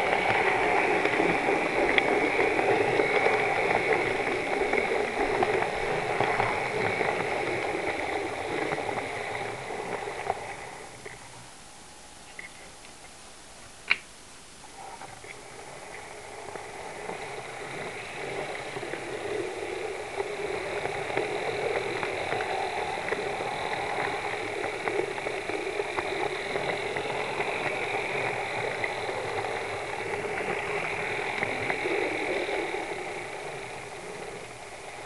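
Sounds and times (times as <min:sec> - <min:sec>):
model train motor whirring: 0:00.0 - 0:11.4, 0:15.0 - 0:35.0
wheels clicking on rails: 0:00.0 - 0:11.5, 0:14.7 - 0:35.0.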